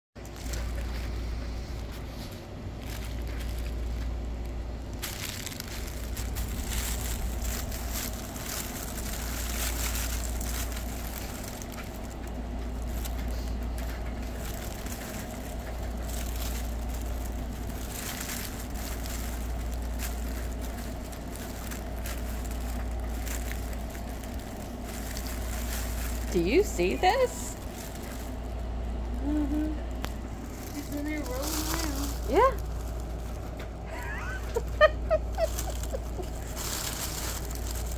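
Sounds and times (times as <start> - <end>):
fabric tunnel rustling and crinkling: 0.2 - 37.9
steady low rumble: 0.2 - 37.9.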